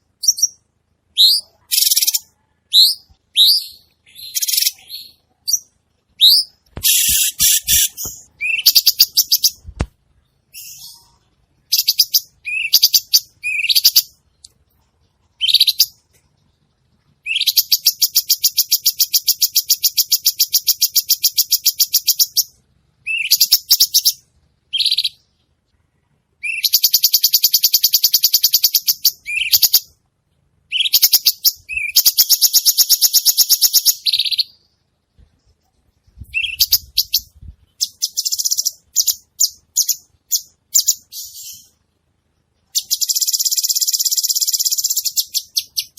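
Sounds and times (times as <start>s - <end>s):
songbird singing with trills: 0.0s - 9.6s, 10.3s - 16.1s, 17.2s - 25.4s, 26.4s - 30.0s, 30.7s - 34.8s, 36.1s - 41.8s, 42.7s - 45.9s.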